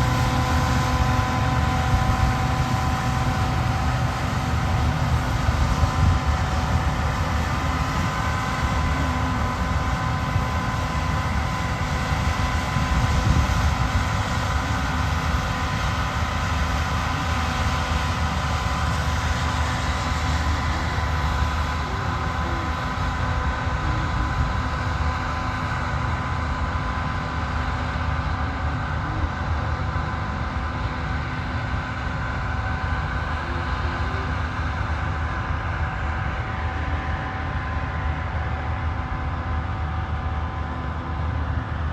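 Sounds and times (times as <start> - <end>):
combine harvester engine rumble: 0.0 - 41.9.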